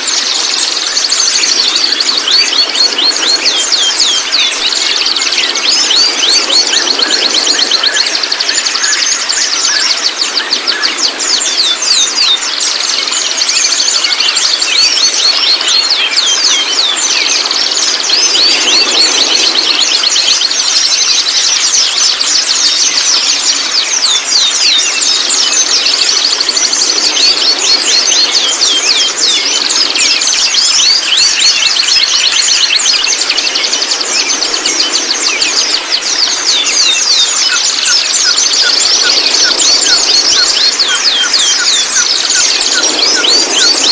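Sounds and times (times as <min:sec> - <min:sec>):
bird chirping and whistling: 0:00.0 - 0:43.9
thin steady high tone: 0:00.0 - 0:43.9.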